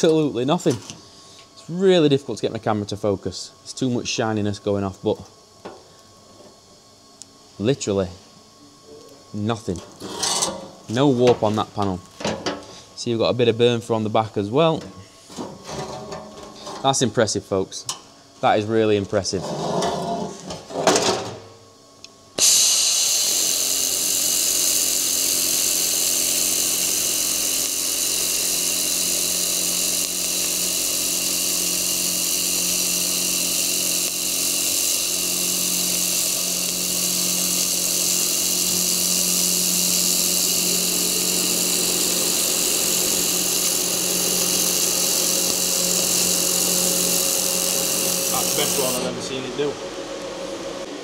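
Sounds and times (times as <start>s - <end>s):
laser welder hissing: 0.0s - 15.9s, 22.3s - 49.7s.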